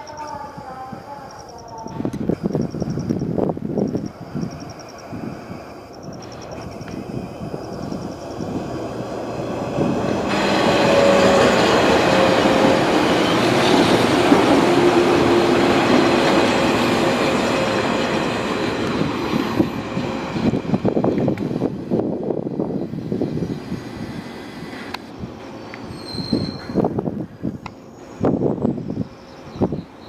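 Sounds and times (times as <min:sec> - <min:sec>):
electric train passing: 0:00.0 - 0:30.0.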